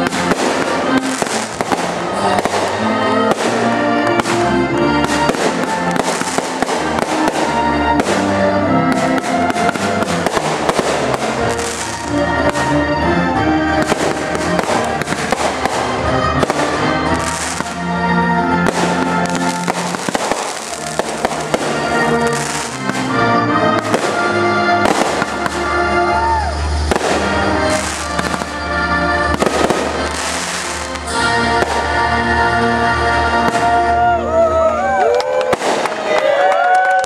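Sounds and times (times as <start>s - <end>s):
fireworks bursting: 0.0s - 34.0s, 35.3s - 36.2s
music playing: 0.0s - 36.3s.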